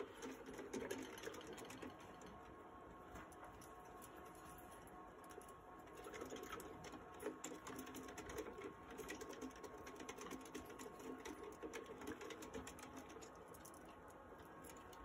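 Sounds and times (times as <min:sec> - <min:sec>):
exercise wheel whirring rattle: 0:00.0 - 0:15.0.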